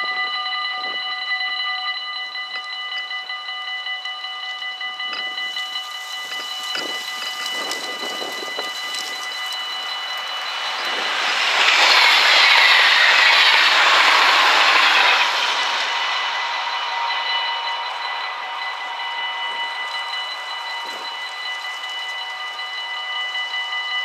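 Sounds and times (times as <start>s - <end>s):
electric train passing at speed: 0.0s - 24.0s
level crossing warning bells: 0.0s - 24.0s.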